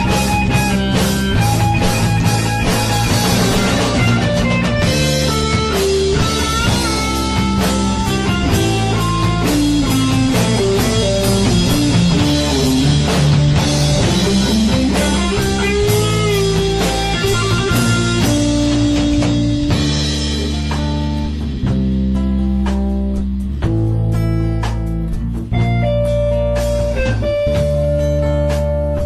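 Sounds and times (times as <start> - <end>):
drum kit beat: 0.0 - 29.0
rock guitar melody: 0.0 - 29.0.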